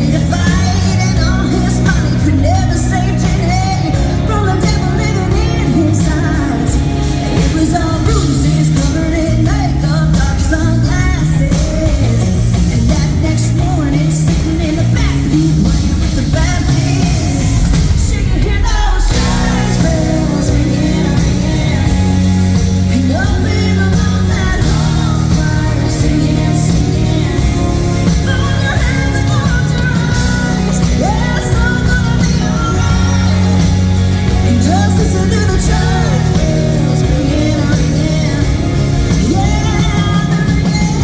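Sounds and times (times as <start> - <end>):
live country-rock band: 0.0 - 41.0
steady drum beat: 0.0 - 41.0
woman singing: 0.0 - 41.0.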